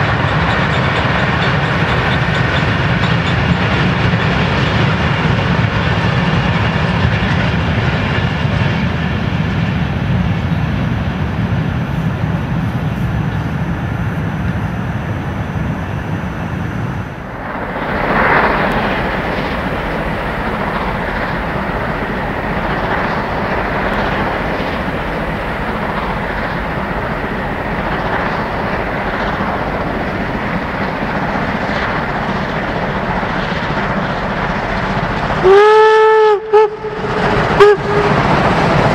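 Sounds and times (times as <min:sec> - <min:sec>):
train running on track: 0:00.0 - 0:38.9.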